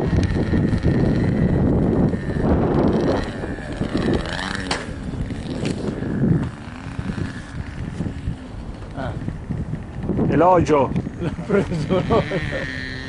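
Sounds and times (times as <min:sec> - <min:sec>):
distant model aeroplane motor drone: 0:00.0 - 0:13.0
wind buffeting microphone: 0:00.0 - 0:13.0.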